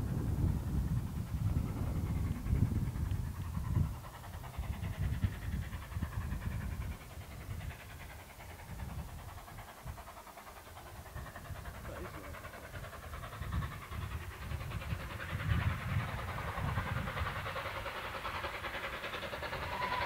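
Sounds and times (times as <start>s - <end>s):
distant steam locomotive: 0.0s - 20.0s
wind buffeting microphone: 0.0s - 20.0s.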